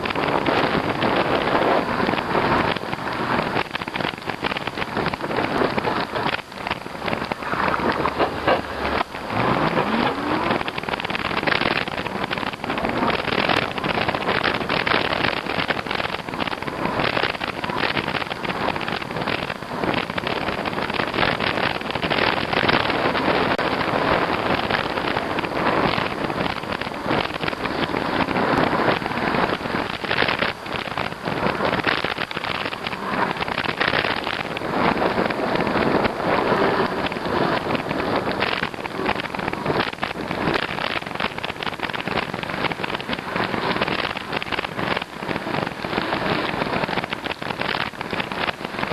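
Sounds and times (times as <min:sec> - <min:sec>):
tyres crackling on snow: 0:00.0 - 0:48.9
wind buffeting microphone: 0:00.0 - 0:48.9.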